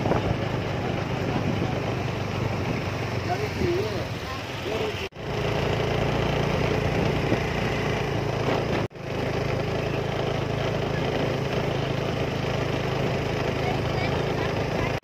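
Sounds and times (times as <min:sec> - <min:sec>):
small motorbike engine running: 0:00.0 - 0:15.0
wind and road noise: 0:00.0 - 0:15.0.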